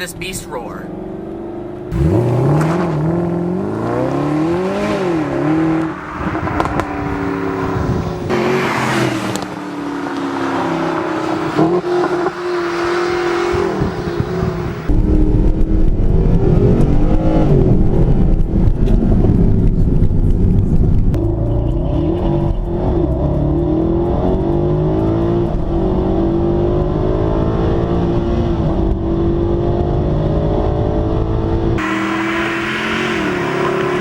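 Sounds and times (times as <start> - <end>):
car engine revving: 0.8 - 34.0.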